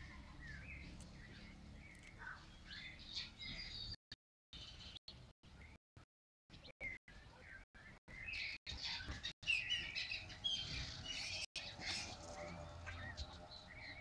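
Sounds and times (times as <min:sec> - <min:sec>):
birds chirping: 0:00.0 - 0:04.0, 0:04.6 - 0:05.8, 0:06.5 - 0:14.0.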